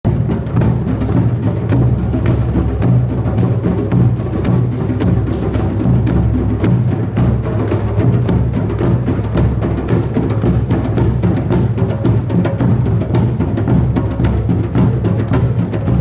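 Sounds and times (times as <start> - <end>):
drum circle playing: 0.0 - 16.0.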